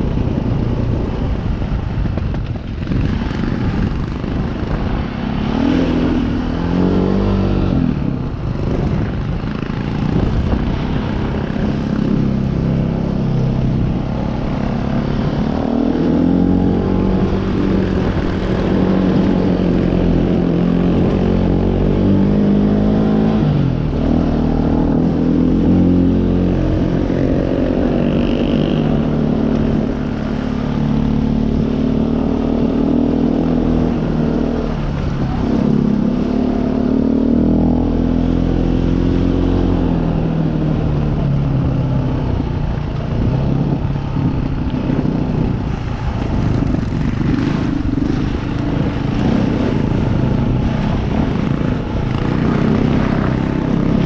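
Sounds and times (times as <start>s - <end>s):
trail bike engine revving: 0.0s - 54.0s.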